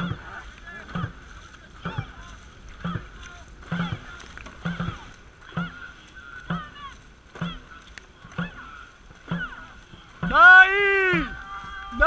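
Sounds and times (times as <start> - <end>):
low paddle thuds: 0.0 - 12.0.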